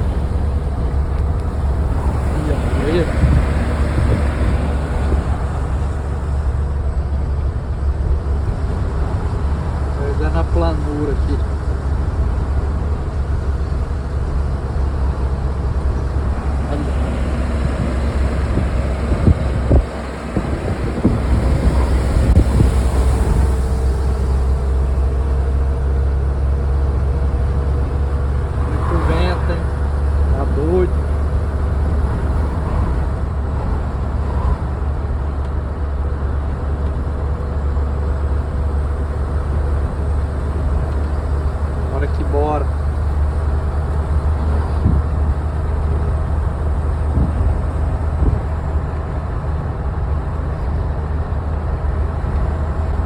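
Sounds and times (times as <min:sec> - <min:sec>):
vehicle and road noise: 0:00.0 - 0:53.0
wind rumble on microphone: 0:00.0 - 0:53.0.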